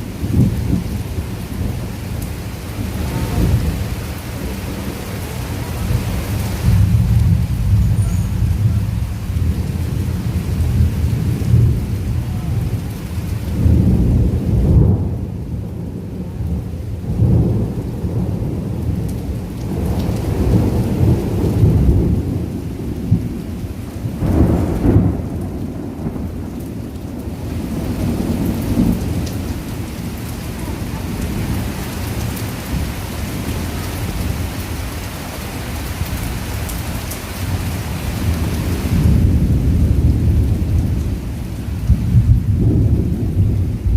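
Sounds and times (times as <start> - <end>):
heavy rain: 0.0 - 43.9
thunder rumbling: 0.0 - 43.9.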